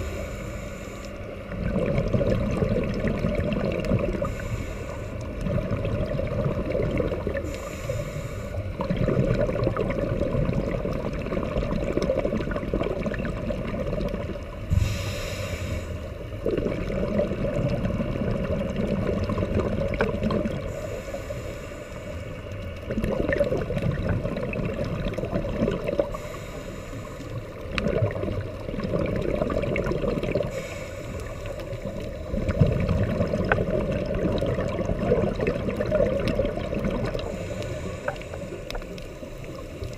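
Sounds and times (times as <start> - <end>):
bubbling gurgling rumble: 0.0 - 0.4, 1.3 - 7.9, 8.6 - 20.9, 22.4 - 26.4, 27.4 - 39.9.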